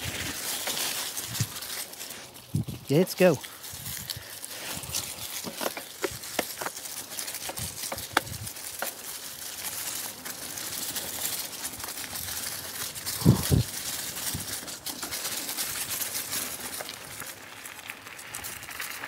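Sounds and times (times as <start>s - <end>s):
bike tyres rolling over leaves: 0.0s - 19.0s.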